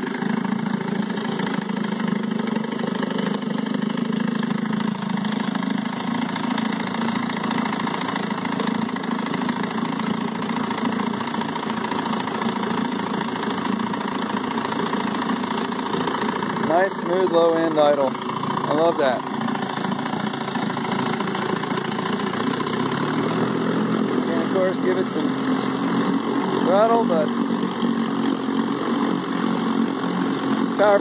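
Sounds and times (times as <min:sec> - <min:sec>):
outboard motor idling: 0:00.0 - 0:31.0
propeller churning water: 0:00.0 - 0:31.0.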